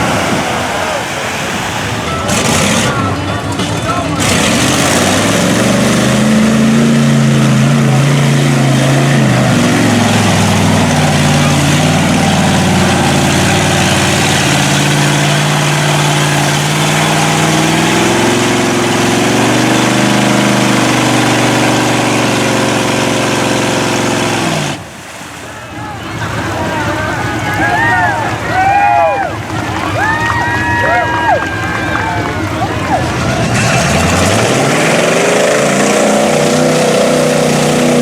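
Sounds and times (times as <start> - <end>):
truck engine revving hard: 0.0 - 25.2, 26.0 - 38.0
loud rushing noise: 0.0 - 38.0.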